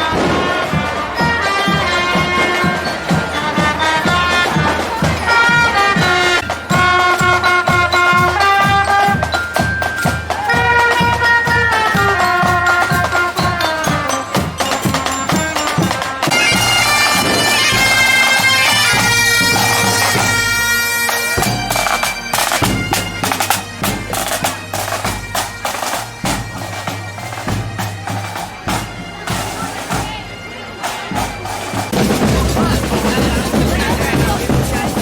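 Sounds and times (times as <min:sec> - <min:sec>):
bagpipes playing: 0:00.0 - 0:35.0
drums beating: 0:00.0 - 0:35.0.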